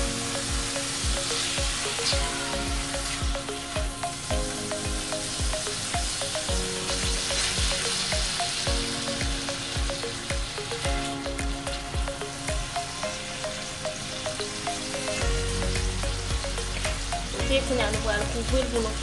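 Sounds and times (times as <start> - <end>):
background music with steady beat: 0.0 - 19.0
beef sizzling in a frying pan: 0.0 - 19.0.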